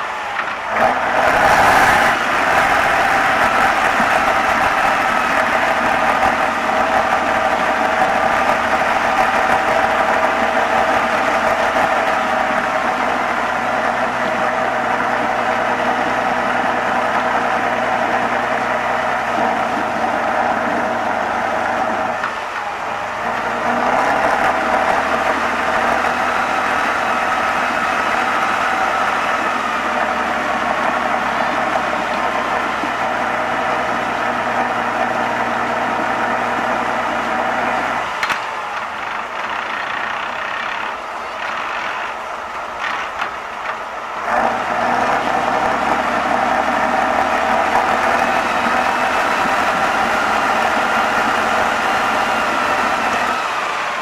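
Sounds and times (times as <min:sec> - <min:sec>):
diesel truck engine at low revs: 0:00.0 - 0:54.0.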